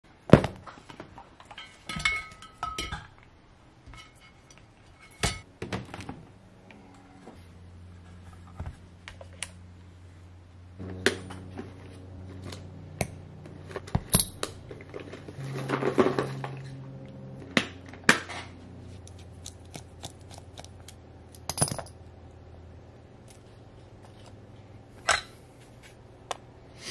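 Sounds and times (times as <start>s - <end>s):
steady low hum: 2.0s - 26.9s.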